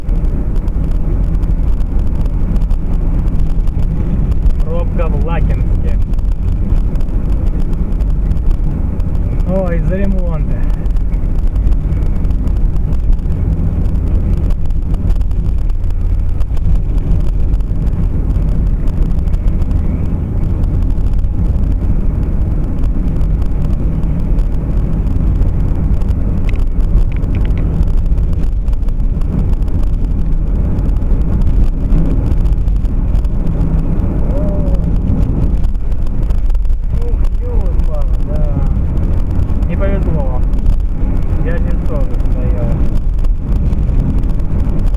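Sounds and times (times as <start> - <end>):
motor vehicle rumble: 0.0 - 44.9
road noise: 0.0 - 44.9.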